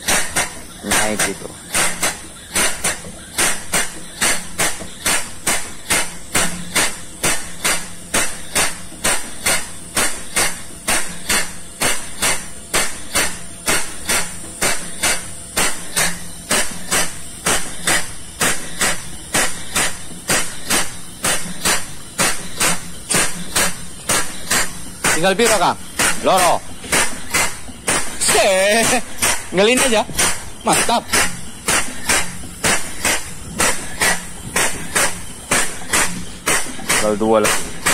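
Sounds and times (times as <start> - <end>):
air-powered pump knocking and hissing: 0.0 - 37.9.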